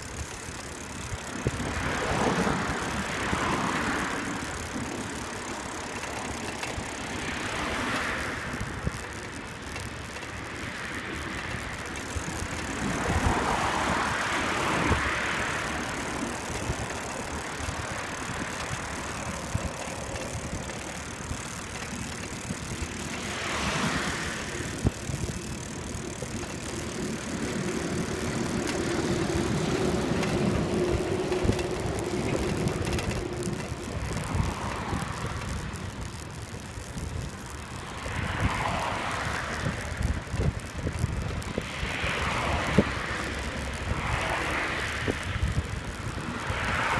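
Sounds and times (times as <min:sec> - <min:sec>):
bicycle tyre and wind noise: 0:00.0 - 0:46.9
bike rattles and clicks: 0:00.0 - 0:46.9
steady droning tone: 0:00.0 - 0:46.9
traffic passing: 0:00.0 - 0:46.9.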